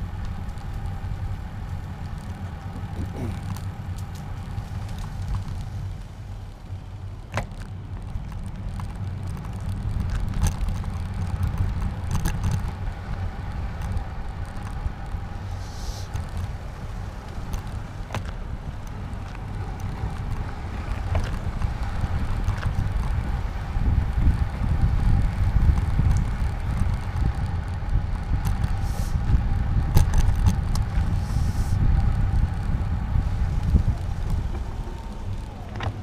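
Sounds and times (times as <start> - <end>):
wind buffeting and road rumble: 0.0 - 36.0
clicks and rattles from bumps: 1.6 - 15.3, 16.1 - 31.2, 33.5 - 36.0.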